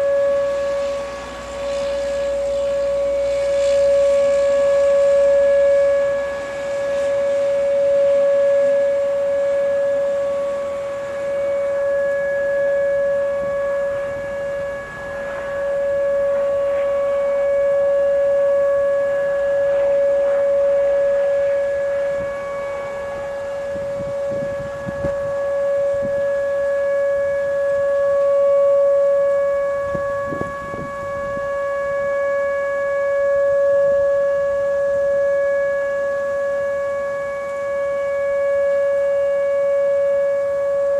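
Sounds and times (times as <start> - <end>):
outdoor warning siren wail: 0.0 - 40.9.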